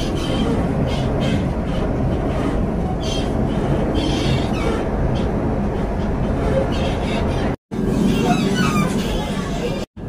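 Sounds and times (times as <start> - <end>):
train wheels rumbling: 0.0 - 9.8.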